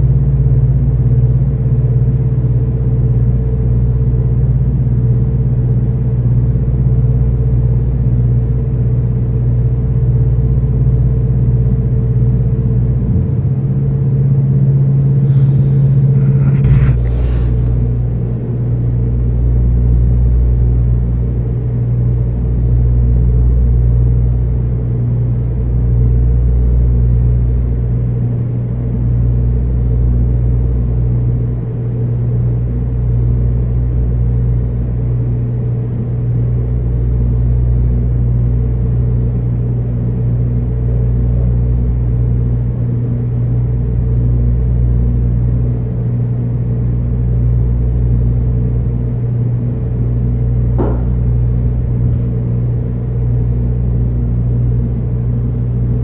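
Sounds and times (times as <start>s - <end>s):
low machine drone: 0.0s - 56.0s.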